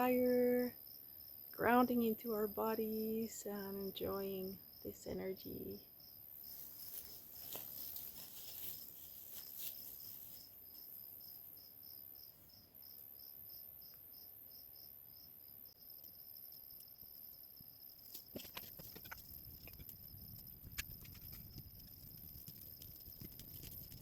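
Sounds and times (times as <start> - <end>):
crickets chirping: 0.0 - 24.0
high insect hiss: 0.0 - 24.0.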